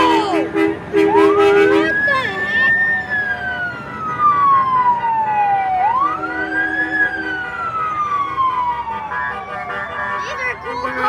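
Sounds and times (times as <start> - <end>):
siren wailing: 1.1 - 11.0.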